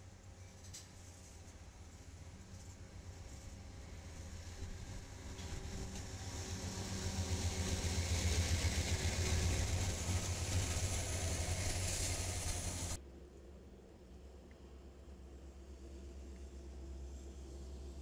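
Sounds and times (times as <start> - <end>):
diesel locomotive engine drone: 0.0 - 18.0
train wheel and rail noise: 0.0 - 18.0.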